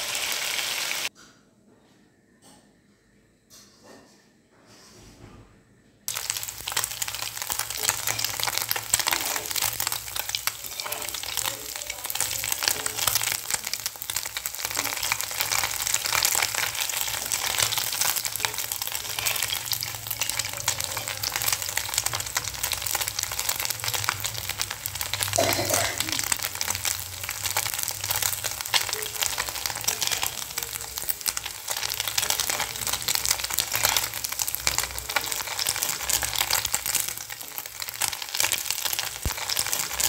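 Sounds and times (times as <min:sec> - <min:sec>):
food sizzling in hot oil: 0:00.0 - 0:01.1, 0:06.1 - 0:40.0.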